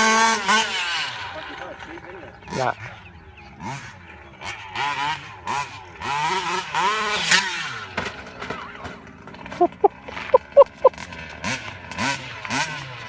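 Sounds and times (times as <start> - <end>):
rc truck engine revving: 0.0 - 1.8, 3.6 - 8.5, 9.1 - 13.0.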